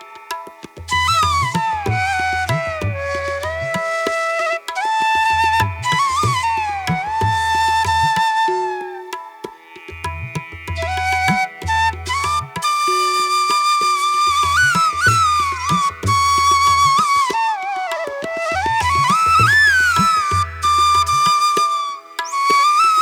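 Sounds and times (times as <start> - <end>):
flute melody bending in pitch: 0.9 - 9.5, 10.8 - 23.0.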